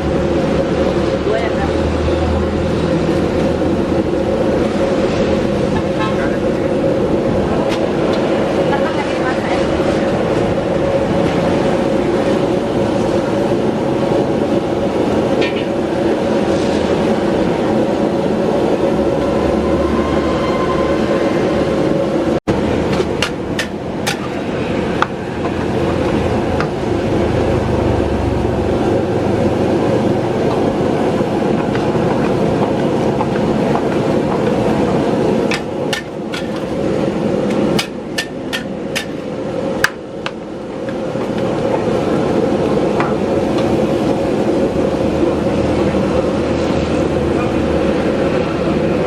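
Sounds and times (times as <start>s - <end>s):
gas burner rushing: 0.0s - 49.0s.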